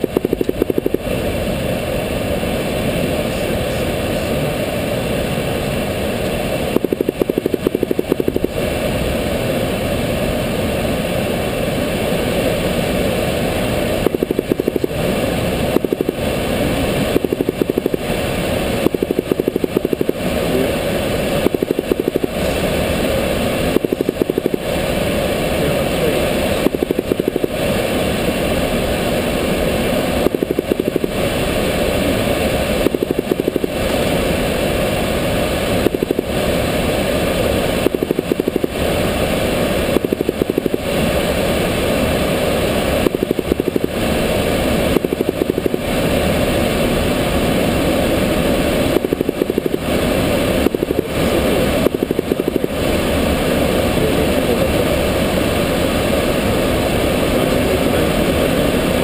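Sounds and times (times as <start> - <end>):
light aircraft engine droning: 0.0 - 59.0
rapid pulsing: 0.0 - 59.0.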